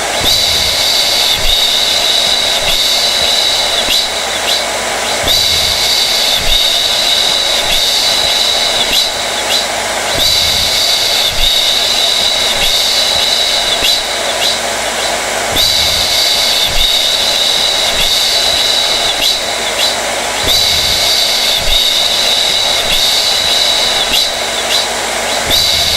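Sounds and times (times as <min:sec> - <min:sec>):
hair dryer airflow rushing: 0:00.0 - 0:25.9
hair dryer high-pitched whine: 0:00.0 - 0:25.9.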